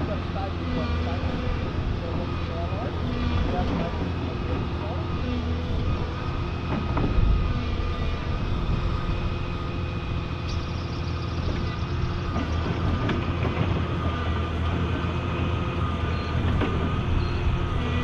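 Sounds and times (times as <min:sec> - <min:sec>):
excavator diesel engine running: 0:00.0 - 0:18.0
hydraulic arm working: 0:00.0 - 0:18.0.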